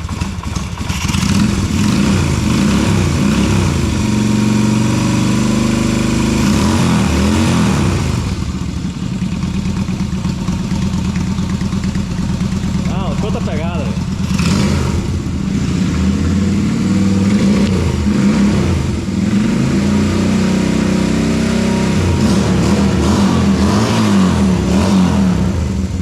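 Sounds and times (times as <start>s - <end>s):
motorcycle engine revving and idling: 0.0s - 26.0s.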